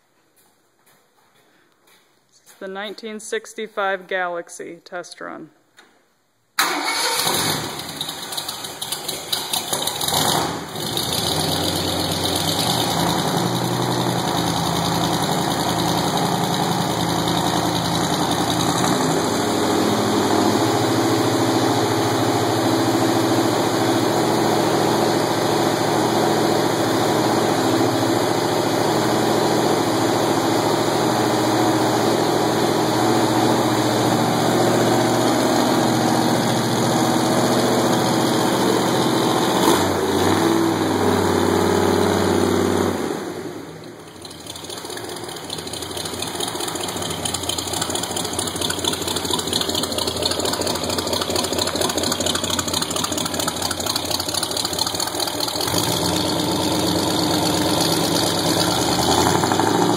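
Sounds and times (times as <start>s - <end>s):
car engine idling: 6.6s - 59.9s.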